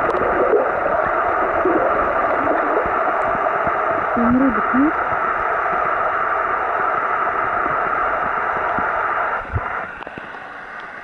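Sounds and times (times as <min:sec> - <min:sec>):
rushing water underwater: 0:00.0 - 0:11.0.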